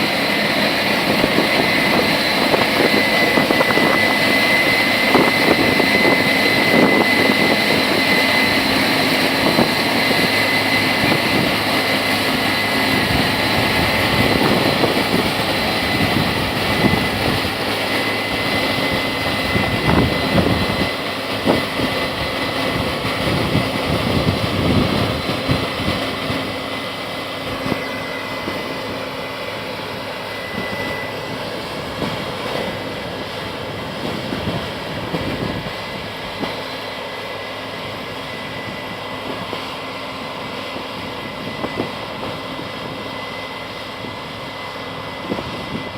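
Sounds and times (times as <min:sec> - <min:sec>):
combine harvester drone: 0:00.0 - 0:45.9
high machine whine: 0:00.0 - 0:45.9.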